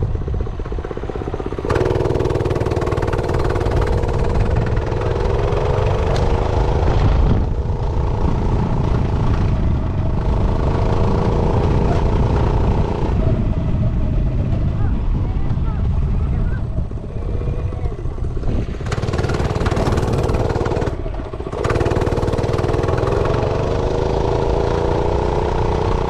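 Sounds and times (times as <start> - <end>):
minibike engine running: 0.0 - 26.0
wind rumble on microphone: 0.0 - 26.0.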